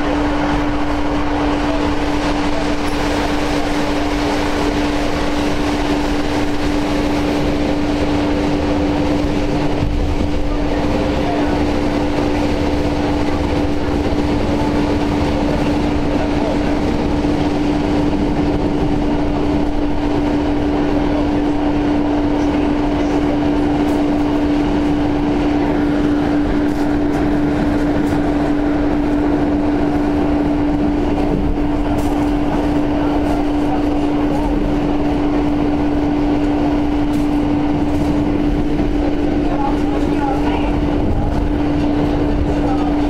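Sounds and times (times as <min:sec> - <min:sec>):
train wheels rolling on track: 0:00.0 - 0:43.0.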